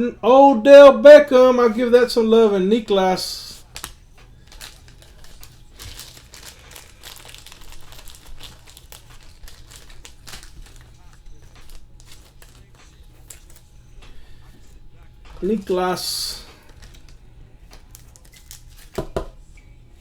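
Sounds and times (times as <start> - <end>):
low steady hum: 0.0 - 20.0
packaging crinkling and rustling: 2.8 - 19.3.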